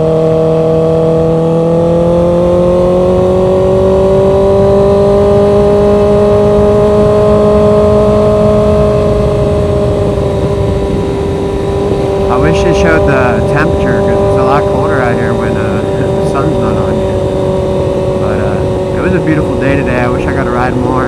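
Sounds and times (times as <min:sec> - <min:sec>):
motorcycle engine cruising: 0:00.0 - 0:21.0
wind noise rumble: 0:00.8 - 0:21.0.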